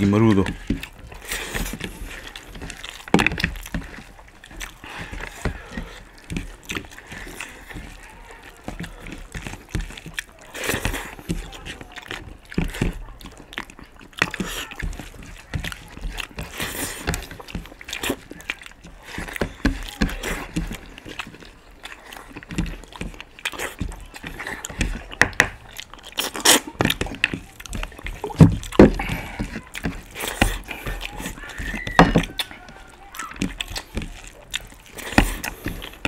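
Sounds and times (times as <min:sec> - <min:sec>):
chewing and mouth noises: 0:00.0 - 0:36.0
wet squish of rice mixed: 0:00.0 - 0:36.0.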